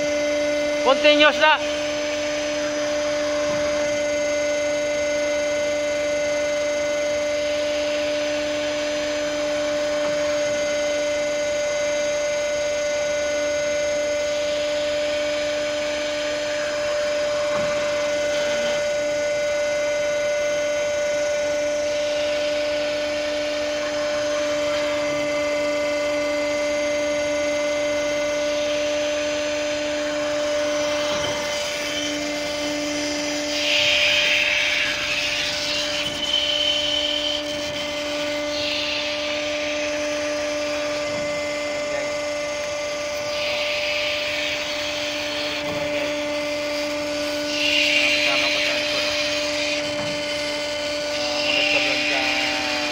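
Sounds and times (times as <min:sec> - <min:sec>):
winch motor hum: 0:00.0 - 0:52.9.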